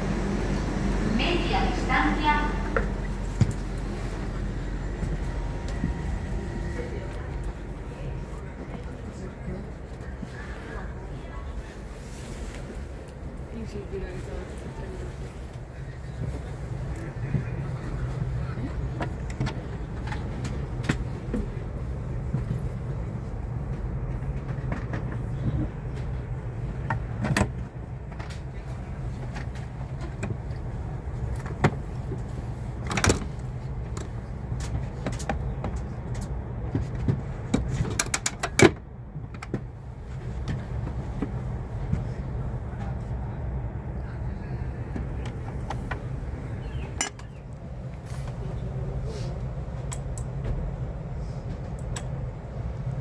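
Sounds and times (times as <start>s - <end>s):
train carriage hum: 0.0s - 53.0s.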